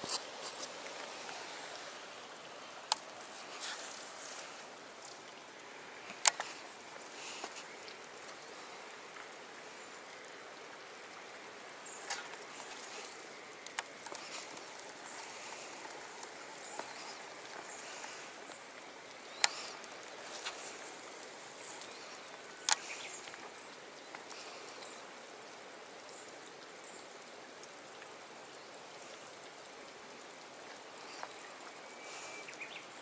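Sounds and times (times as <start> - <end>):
running water hissing: 0.0 - 33.0.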